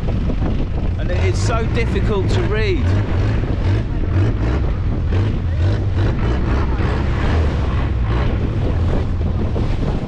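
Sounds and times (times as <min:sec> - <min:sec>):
boat engine drone: 0:00.0 - 0:10.0
sea washing against hull: 0:00.0 - 0:10.0
wind buffeting microphone: 0:00.0 - 0:10.0.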